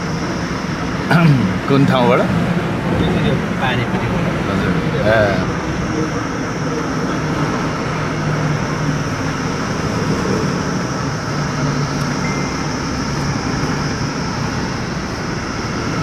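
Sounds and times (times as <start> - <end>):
car engine low hum: 0.0 - 16.0
tyre road noise: 0.0 - 16.0.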